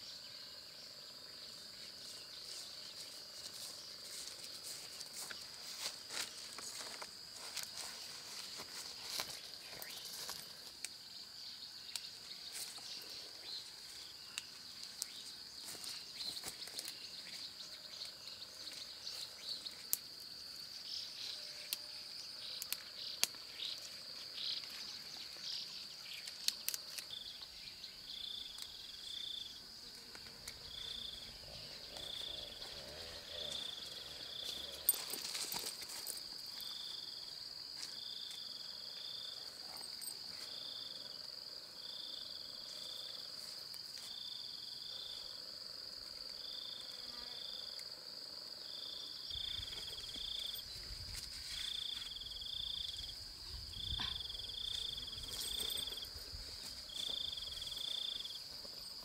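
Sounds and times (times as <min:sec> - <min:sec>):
high-pitched insect drone: 0:00.0 - 0:59.0
insect chirps: 0:00.0 - 0:59.0.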